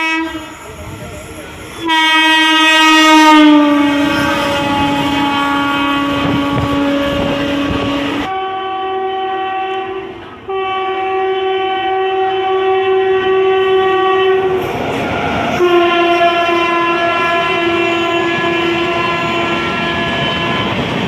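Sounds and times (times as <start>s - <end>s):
locomotive horn blasts: 0.0s - 0.9s, 1.8s - 14.7s, 15.6s - 20.8s
train running noise: 0.0s - 21.0s.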